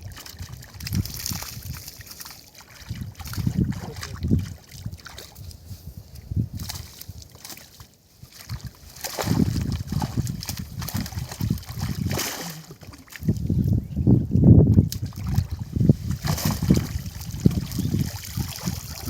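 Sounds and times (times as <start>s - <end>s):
river water sloshing and splashing: 0.0s - 5.7s, 6.6s - 13.5s, 14.9s - 19.0s.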